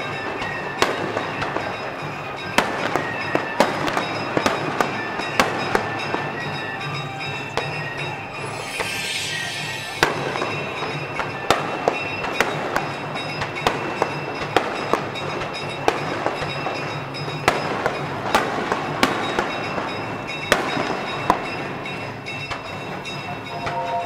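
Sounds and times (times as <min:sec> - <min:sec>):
fireworks exploding: 0:00.0 - 0:21.6.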